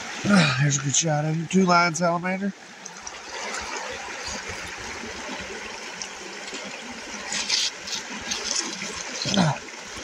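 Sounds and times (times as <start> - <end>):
creek water trickling over stones: 0.0 - 10.0.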